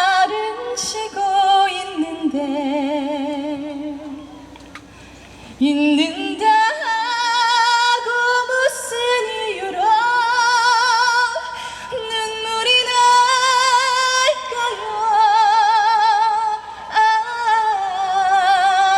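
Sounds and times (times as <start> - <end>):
woman singing unaccompanied: 0.0 - 4.3, 5.6 - 18.9.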